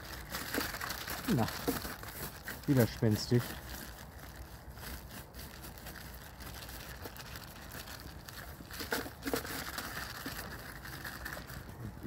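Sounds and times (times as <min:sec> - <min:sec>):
litter rustling and crackling: 0:00.0 - 0:12.0.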